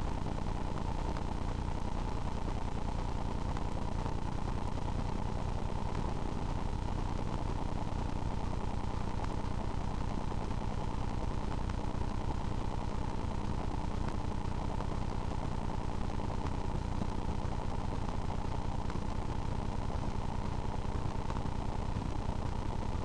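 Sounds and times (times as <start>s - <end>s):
faint ticks: 0.0s - 23.0s
low hum and hiss: 0.0s - 23.0s.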